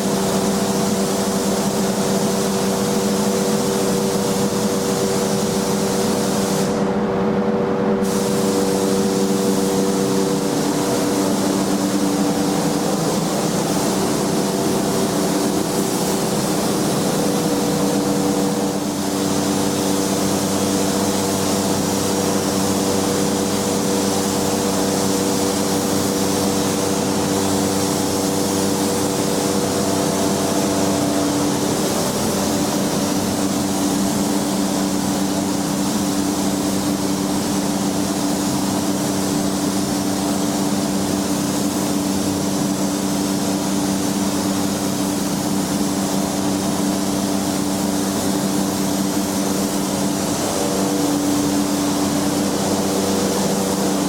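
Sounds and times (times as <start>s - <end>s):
paint spray gun hissing: 0.0s - 7.0s, 8.0s - 54.0s
shop machinery hum: 0.0s - 54.0s.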